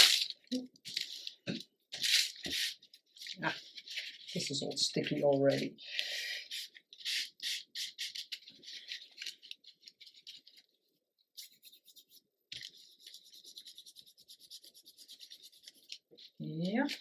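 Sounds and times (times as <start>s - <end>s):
hands rubbing paper: 2.0s - 5.6s, 6.4s - 17.0s.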